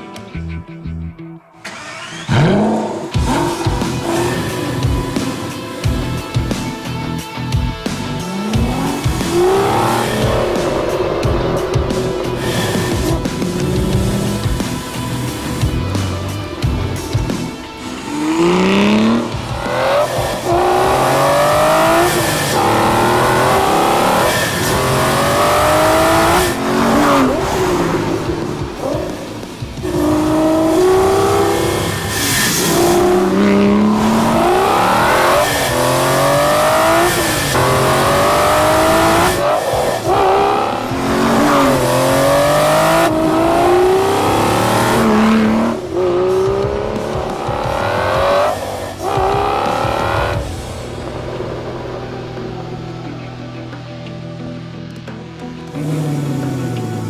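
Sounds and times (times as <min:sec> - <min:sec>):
car engine accelerating through gears: 0:01.6 - 0:53.8, 0:55.7 - 0:57.0.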